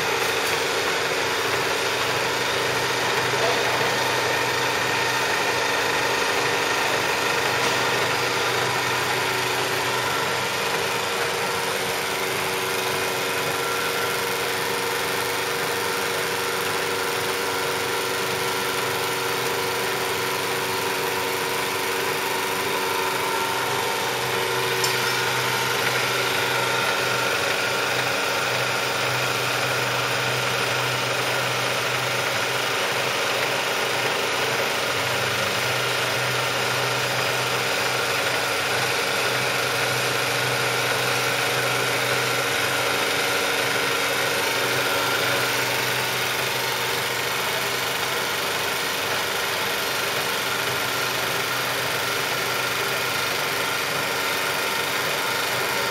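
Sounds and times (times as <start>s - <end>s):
milling machine humming: 0.0s - 55.9s.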